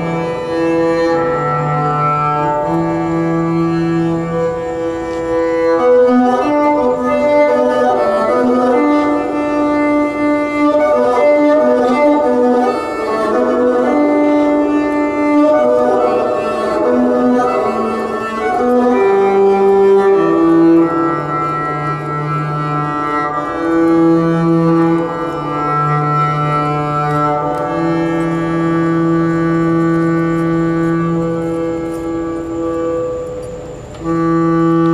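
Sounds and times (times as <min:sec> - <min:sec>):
bowed string notes: 0:00.0 - 0:34.9.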